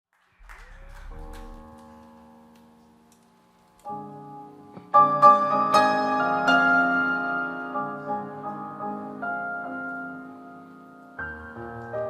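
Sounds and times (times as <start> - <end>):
piano playing slow chords: 0.4 - 12.0.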